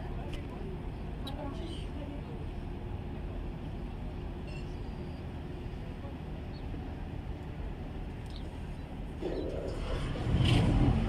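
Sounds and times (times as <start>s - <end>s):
ferry engine drone: 0.0s - 11.0s.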